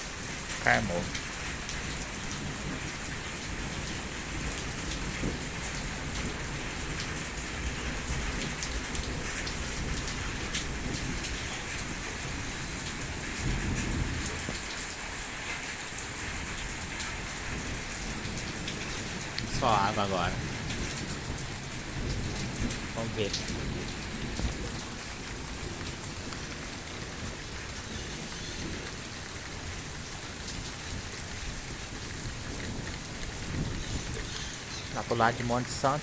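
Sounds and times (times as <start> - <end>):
raindrops ticking on surfaces: 0.0 - 36.0
steady rain falling: 0.0 - 36.0.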